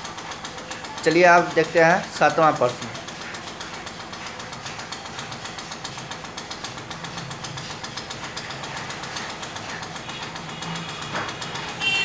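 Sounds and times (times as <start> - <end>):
engine running with knocking: 0.0 - 12.0.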